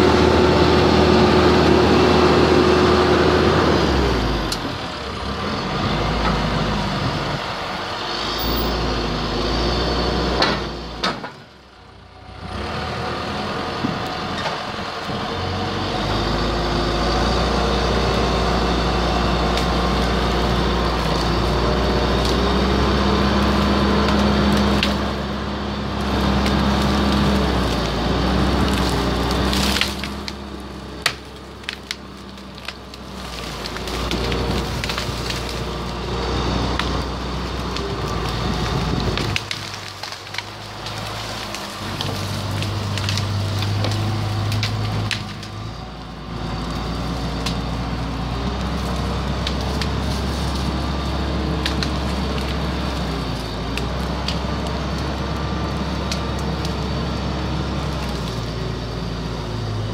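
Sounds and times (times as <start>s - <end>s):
wood and roots cracking: 0.0s - 11.5s, 12.2s - 59.9s
diesel engine under load: 0.0s - 59.9s.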